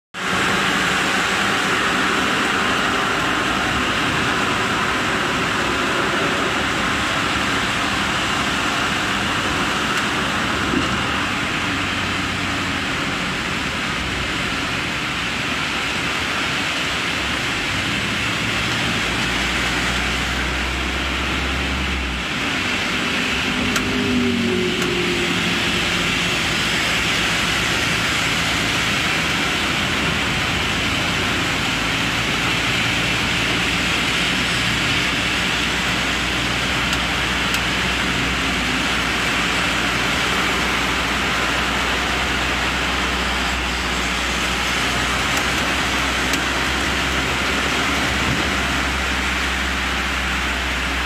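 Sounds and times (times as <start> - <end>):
rain on vehicle body: 0.2 - 51.0
tyres on wet road: 0.2 - 51.0.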